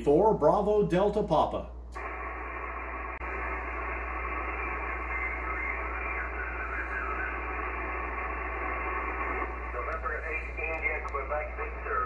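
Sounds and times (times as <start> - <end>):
shortwave radio static hiss: 2.0 - 12.0.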